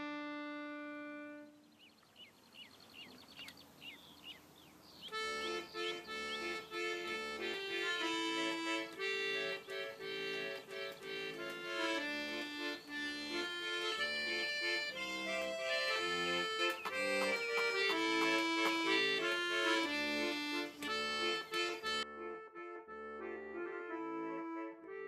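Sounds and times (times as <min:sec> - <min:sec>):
street organ playing a tune: 0:00.0 - 0:25.0
birds chirping: 0:00.1 - 0:22.0.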